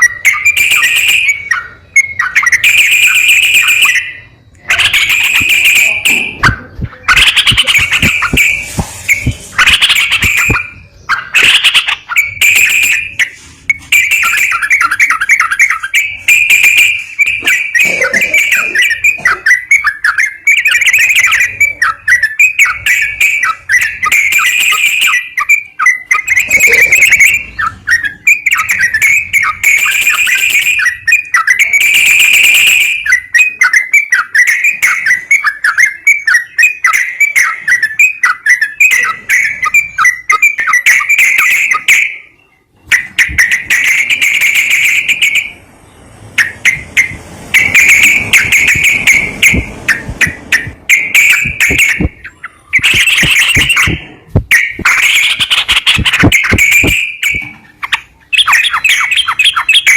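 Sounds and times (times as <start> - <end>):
bulbul chirping song: 0.0 - 45.6, 46.3 - 59.9.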